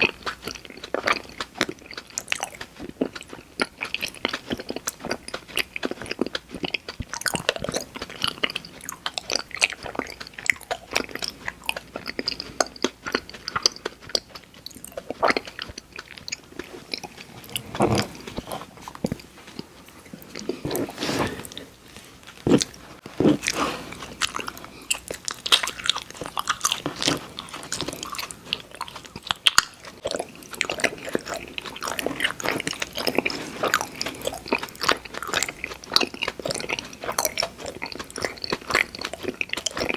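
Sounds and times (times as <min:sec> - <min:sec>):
chewing crunchy candy: 0:00.0 - 0:39.9.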